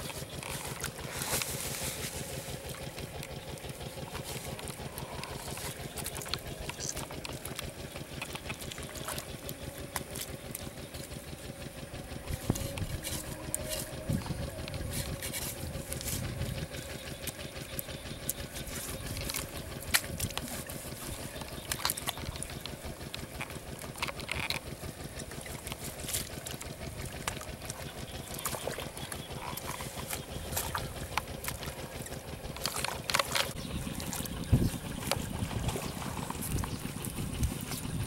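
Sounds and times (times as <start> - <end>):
hoe chopping wet mud: 0.0 - 38.0
steady low rumble: 0.0 - 38.0.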